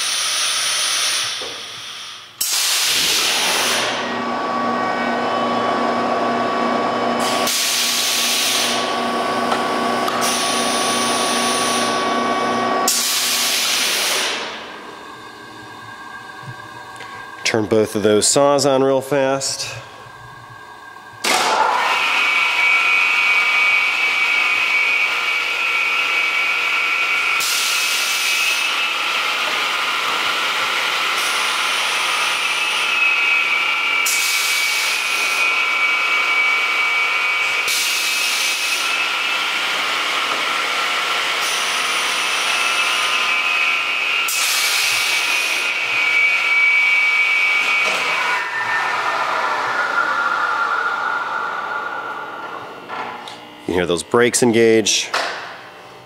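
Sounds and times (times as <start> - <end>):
saw motors whining: 0.0 - 56.0.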